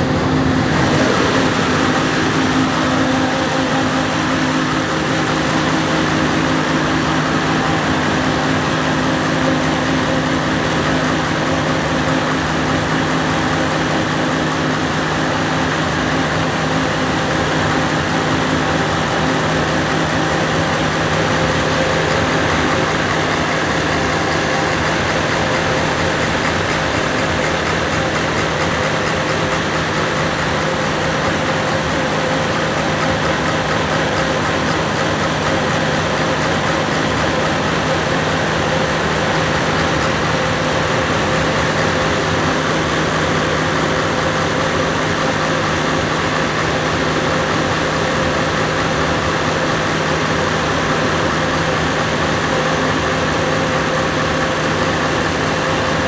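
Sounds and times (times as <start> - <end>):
diesel generator engine running: 0.0 - 56.0.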